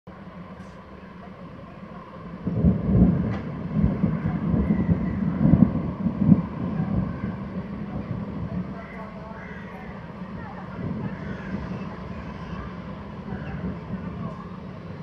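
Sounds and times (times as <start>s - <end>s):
rolling thunder: 1.8s - 15.0s.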